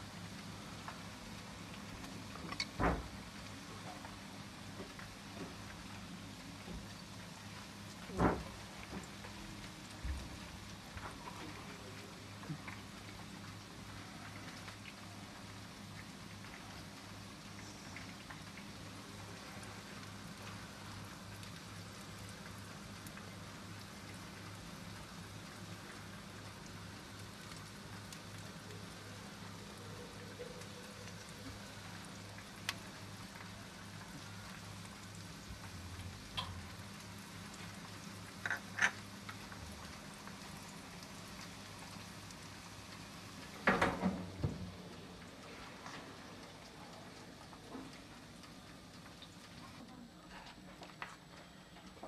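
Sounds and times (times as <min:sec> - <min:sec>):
electric oven hissing and humming: 0:00.0 - 0:52.0.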